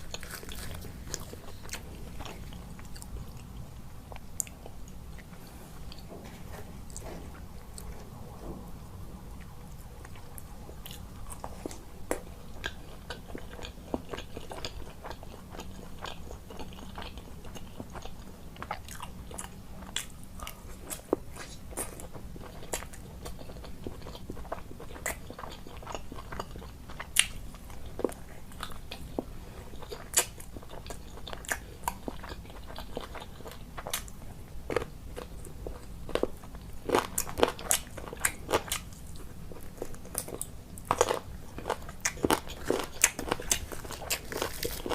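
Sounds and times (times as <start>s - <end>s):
person chewing crunchy food: 0.0s - 8.1s, 9.3s - 44.9s.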